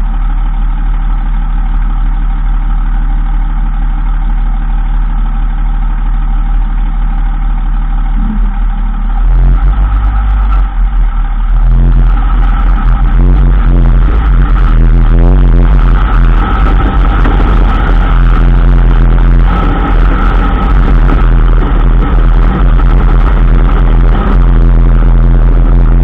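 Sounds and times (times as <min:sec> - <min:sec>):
drivetrain drone: 0:00.0 - 0:26.0
truck engine running: 0:00.0 - 0:26.0.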